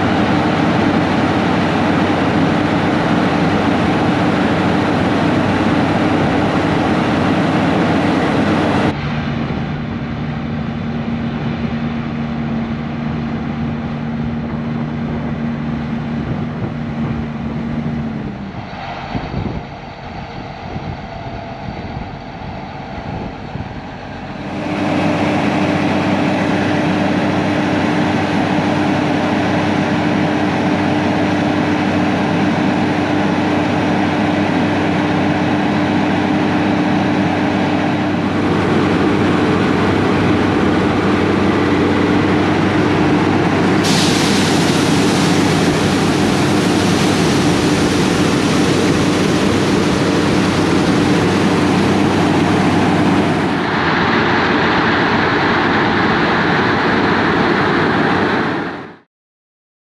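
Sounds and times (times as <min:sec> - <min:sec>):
heavy machinery rumble: 0:00.0 - 0:59.0.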